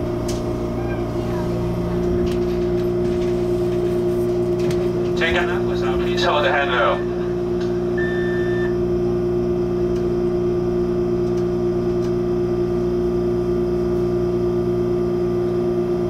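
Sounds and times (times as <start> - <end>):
train cabin electrical hum: 0.0 - 16.0.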